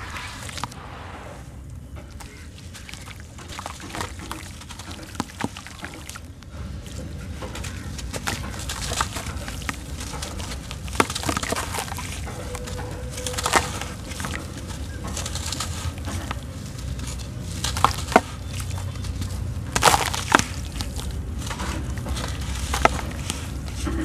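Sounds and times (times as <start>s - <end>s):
crumbs pattering into water: 0.0s - 0.8s, 1.8s - 24.0s
sand-cement lumps crumbling by hand: 0.0s - 0.8s, 1.5s - 24.0s.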